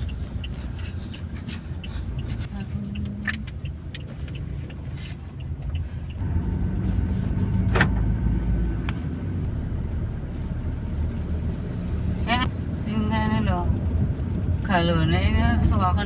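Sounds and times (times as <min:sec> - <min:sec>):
road vehicle rumbling: 0:00.0 - 0:16.0.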